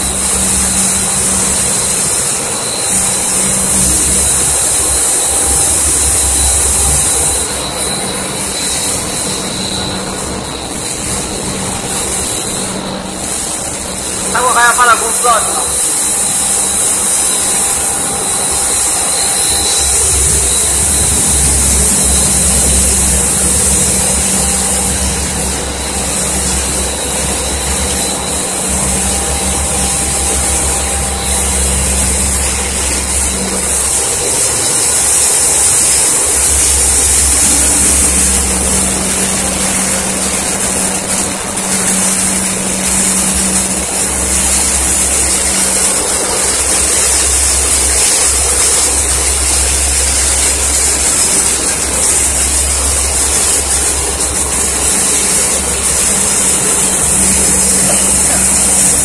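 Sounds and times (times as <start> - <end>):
loud high hiss: 0.0 - 59.0
motor hum: 0.0 - 59.0.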